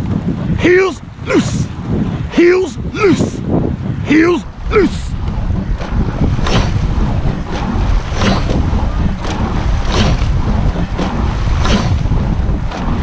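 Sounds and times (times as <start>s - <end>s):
oars knocking and rushing: 0.0s - 13.0s
wind rumble on microphone: 0.0s - 13.0s.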